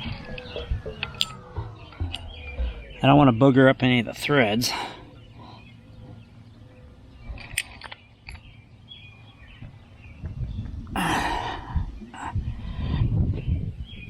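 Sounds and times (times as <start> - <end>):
rumbling handling noise: 0.0 - 14.0.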